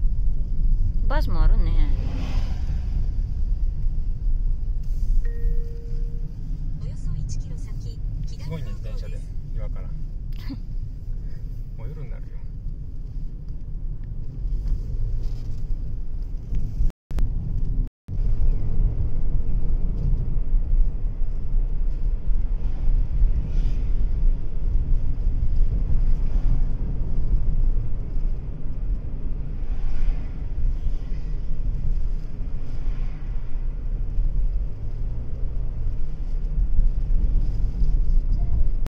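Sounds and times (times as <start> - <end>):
car driving rumble inside cabin: 0.0 - 38.9.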